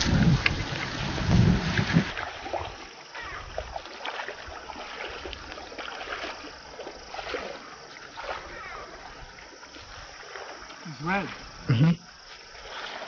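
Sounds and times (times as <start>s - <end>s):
legs splashing through shallow water: 0.0s - 13.0s.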